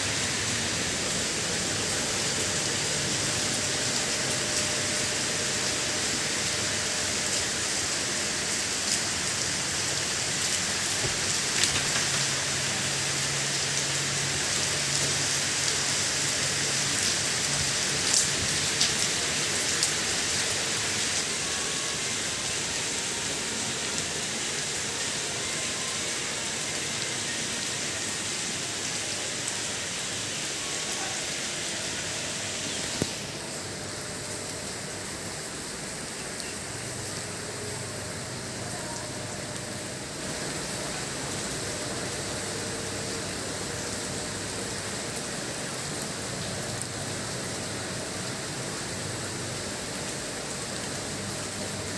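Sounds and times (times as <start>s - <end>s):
rain drop hits: 0.0s - 51.9s
steady rain hiss: 0.0s - 51.9s.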